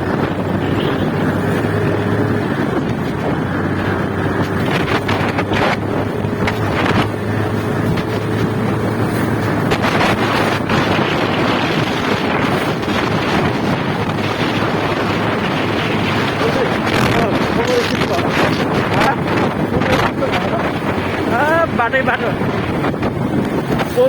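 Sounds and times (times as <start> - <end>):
motorcycle engine humming: 0.0 - 24.0
wind rushing over microphone: 0.0 - 24.0.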